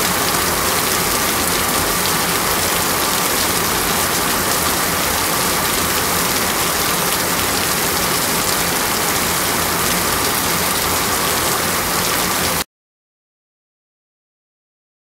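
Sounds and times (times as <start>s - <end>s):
heavy rain pouring: 0.0s - 12.7s.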